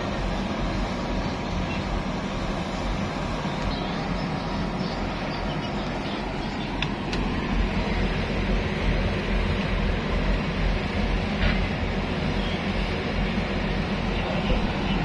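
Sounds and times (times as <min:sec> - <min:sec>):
ship engine rumble: 0:00.0 - 0:15.0.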